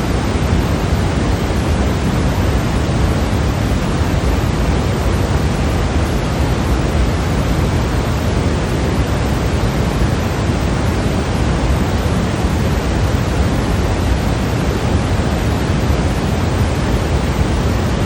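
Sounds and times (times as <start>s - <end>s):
white noise hiss: 0.0s - 18.0s.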